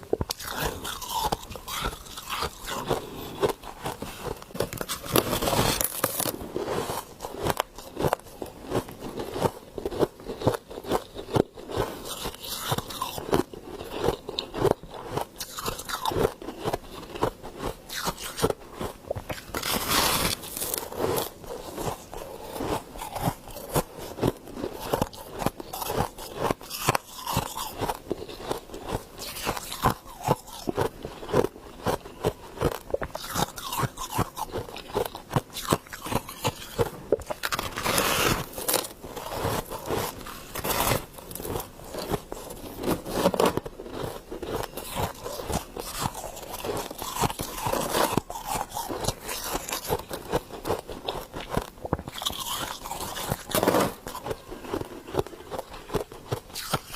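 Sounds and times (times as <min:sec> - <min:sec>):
person chewing crunchy ice: 0:00.0 - 0:56.9.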